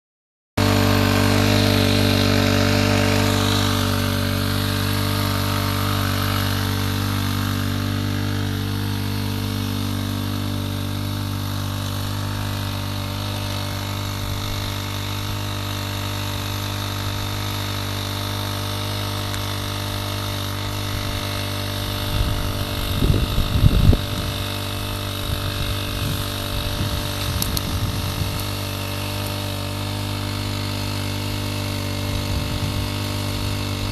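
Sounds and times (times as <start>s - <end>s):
pressure washer running: 0.6s - 33.9s.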